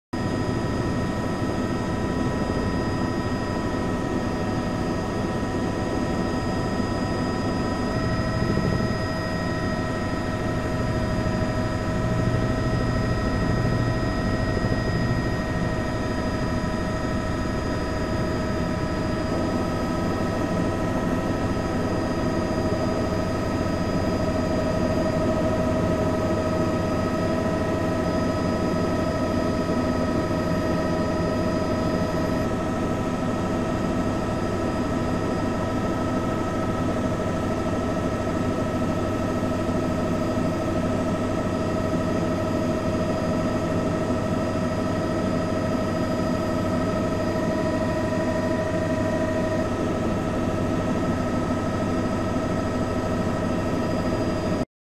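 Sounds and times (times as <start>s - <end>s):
helicopter rotor drone: 0.1s - 54.6s
turbine whine: 0.2s - 54.6s.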